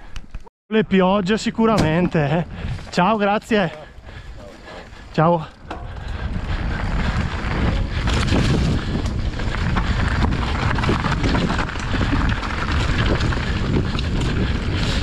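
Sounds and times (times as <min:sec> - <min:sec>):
tyres rumbling on stones: 0:01.8 - 0:15.0
wind buffeting microphone: 0:01.8 - 0:15.0
bike rattling clicks and knocks: 0:02.0 - 0:15.0.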